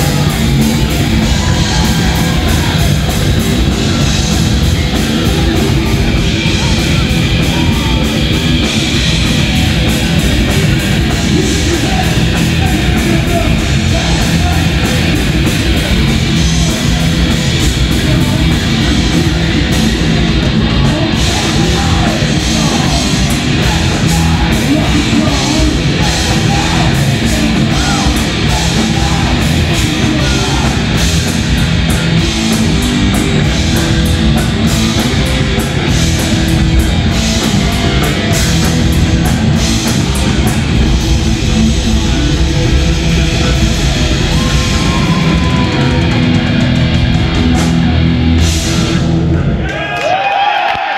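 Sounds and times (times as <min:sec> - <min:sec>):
bass guitar: 0:00.0 - 0:50.9
distorted electric guitars: 0:00.0 - 0:50.9
drums: 0:00.0 - 0:50.9.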